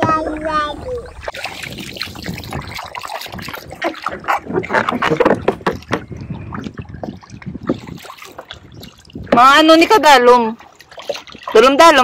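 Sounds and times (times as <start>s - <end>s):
paddle splashing water: 0.0s - 12.0s.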